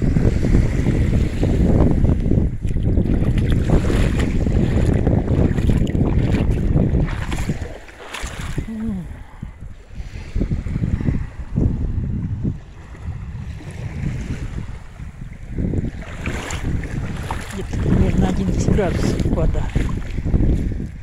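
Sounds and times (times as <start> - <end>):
small waves lapping on shore: 0.0 - 21.0
wind buffeting microphone: 0.0 - 21.0.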